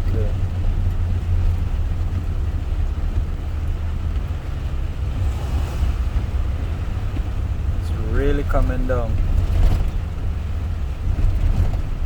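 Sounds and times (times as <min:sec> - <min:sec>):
heavy rain drumming on car: 0:00.0 - 0:12.0
road and engine rumble: 0:00.0 - 0:12.0.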